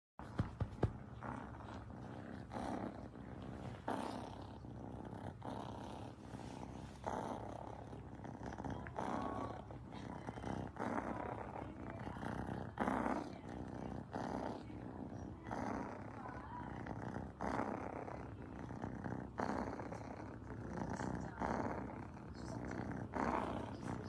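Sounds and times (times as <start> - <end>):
cat purring: 0.2 - 24.0.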